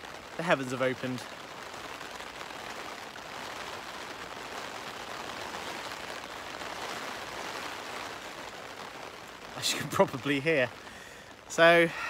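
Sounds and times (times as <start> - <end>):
rain on tent fabric: 0.0 - 12.0.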